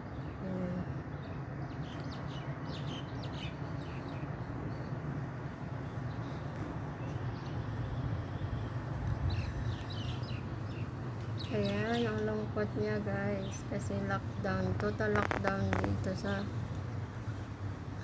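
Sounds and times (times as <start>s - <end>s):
birds chirping: 0.0s - 16.5s
low ambient rumble: 0.0s - 18.0s.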